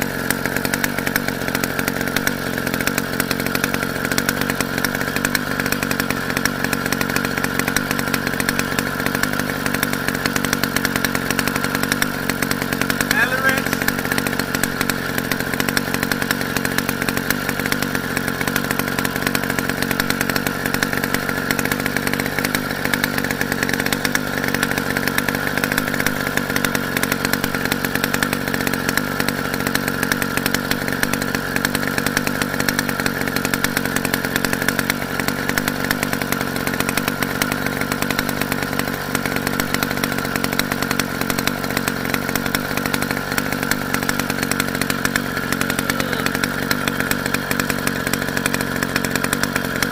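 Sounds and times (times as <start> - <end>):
small engine buzzing drone: 0.0 - 49.9.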